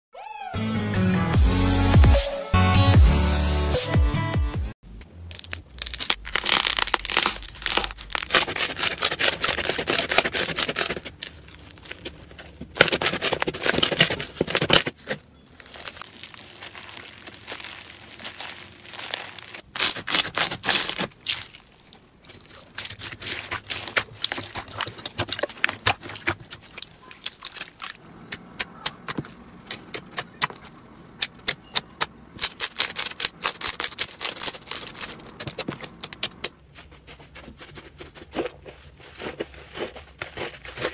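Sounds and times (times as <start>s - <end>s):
slime crackling and crunching: 5.3s - 30.7s, 32.3s - 36.4s, 37.2s - 40.9s.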